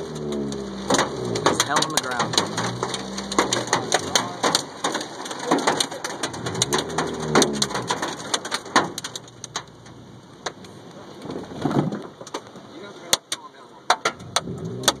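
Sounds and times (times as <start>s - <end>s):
hail and rain on car body: 0.0s - 15.0s.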